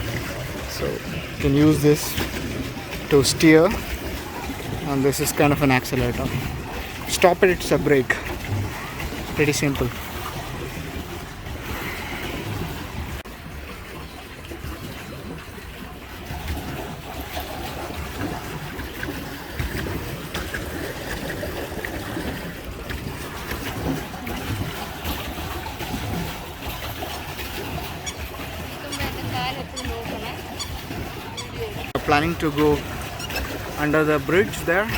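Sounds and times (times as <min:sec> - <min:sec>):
water splashing against pedal boat: 0:00.0 - 0:34.9.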